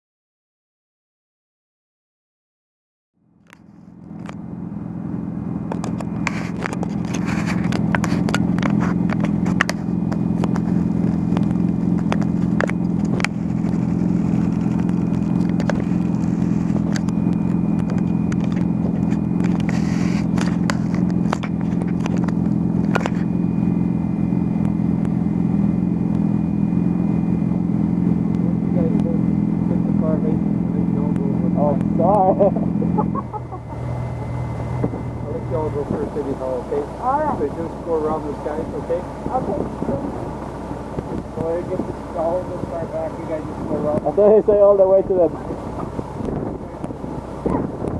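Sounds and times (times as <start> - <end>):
motorcycle engine running: 3.2 - 47.9.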